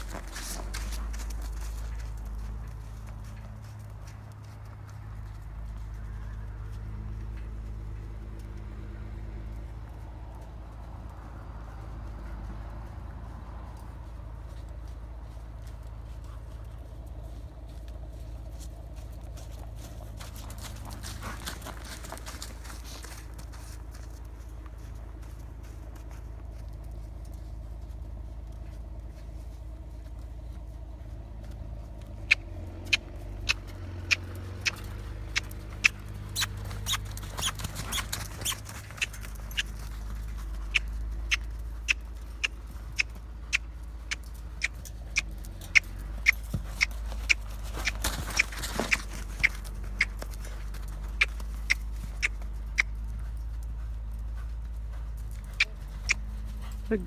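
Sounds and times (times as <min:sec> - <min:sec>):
horse hooves clopping: 0:00.0 - 0:57.0
steady low rumble: 0:00.0 - 0:57.0.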